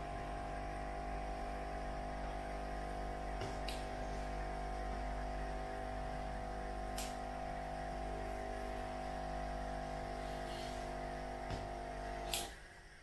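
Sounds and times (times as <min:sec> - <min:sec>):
electrical hum with steady tone: 0:00.0 - 0:13.0.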